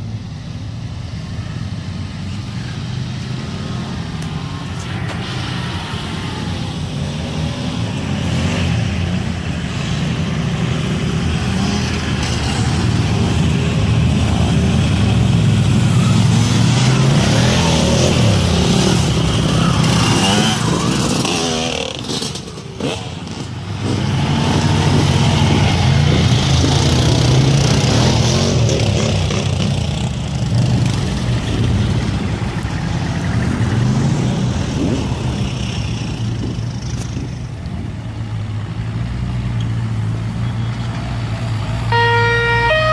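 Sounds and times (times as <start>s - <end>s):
off-road vehicles driving past: 0.0s - 42.9s.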